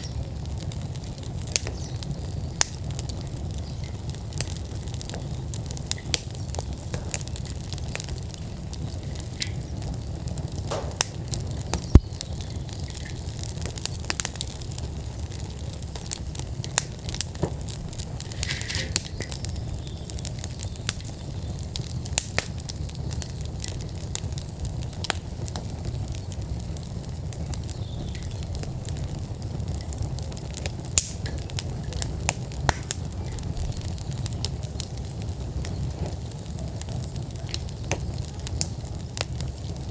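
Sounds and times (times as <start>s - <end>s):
fire crackling and popping: 0.0s - 39.9s
rumble of flames: 0.0s - 39.9s.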